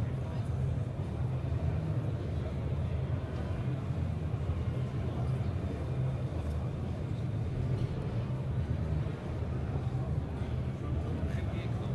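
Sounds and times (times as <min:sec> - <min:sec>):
indistinct crowd chatter: 0:00.0 - 0:11.9.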